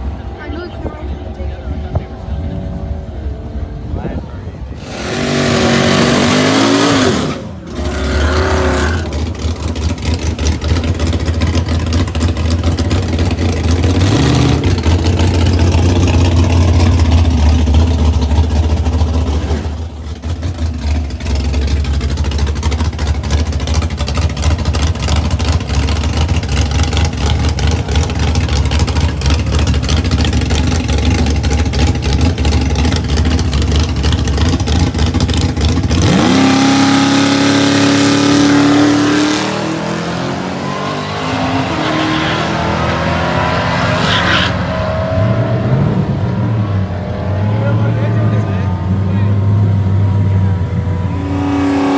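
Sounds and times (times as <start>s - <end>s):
vehicle engine rumbling and revving: 0.0s - 51.9s.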